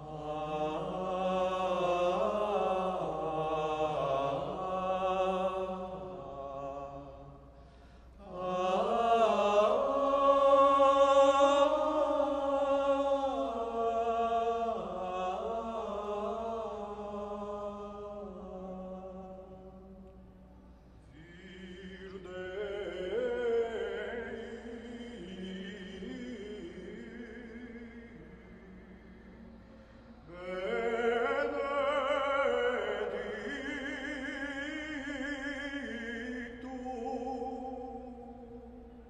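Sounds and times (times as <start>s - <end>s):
choir chanting in long notes: 0.0s - 39.0s.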